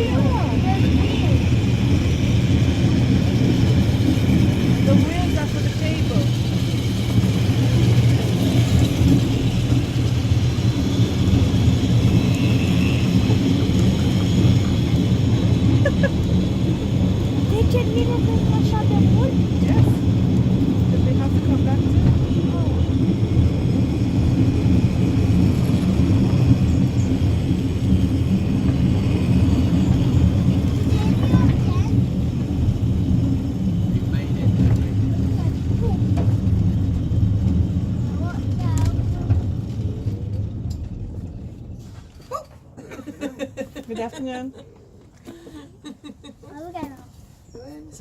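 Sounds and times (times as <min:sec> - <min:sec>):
tramcar rumbling on rails: 0:00.0 - 0:48.0.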